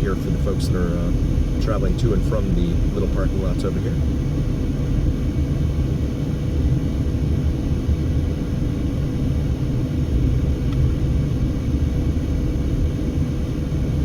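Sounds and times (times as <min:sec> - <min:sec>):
car road and wind noise: 0:00.0 - 0:14.0.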